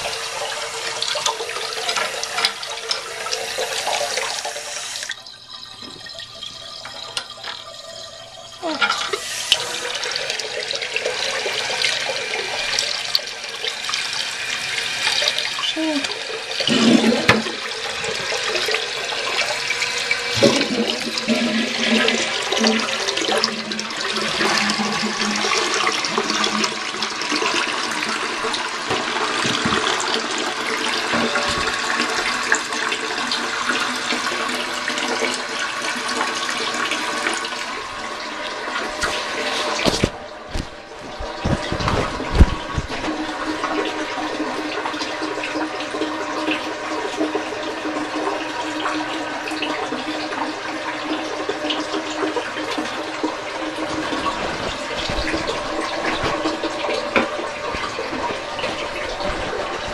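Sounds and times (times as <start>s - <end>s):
tank refilling with running water: 0.0s - 59.9s
toilet flushing with gurgle: 0.0s - 59.9s.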